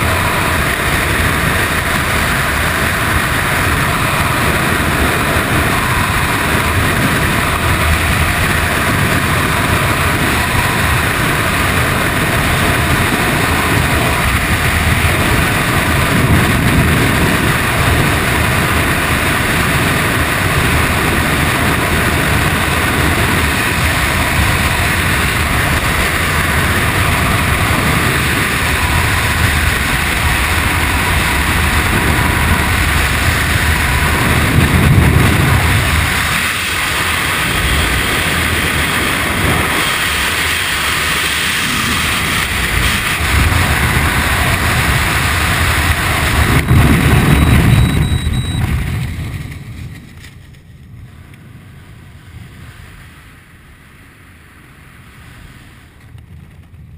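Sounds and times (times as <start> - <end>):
wind rushing in freefall: 0.0 - 56.9.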